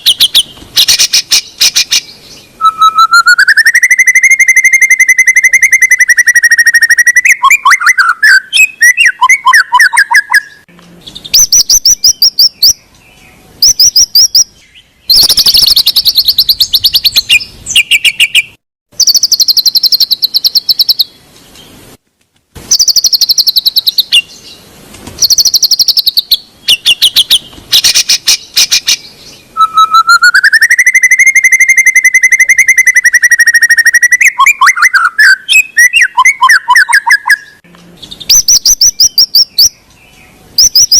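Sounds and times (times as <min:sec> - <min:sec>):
songbird chattering and whistling: 0:00.0 - 0:21.2, 0:22.7 - 0:40.9.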